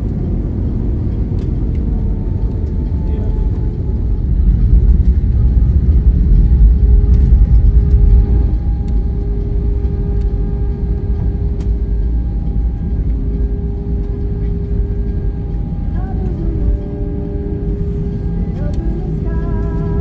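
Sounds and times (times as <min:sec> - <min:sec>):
aircraft landing roll rumble: 0:00.0 - 0:20.0
steady cabin hum: 0:00.0 - 0:20.0.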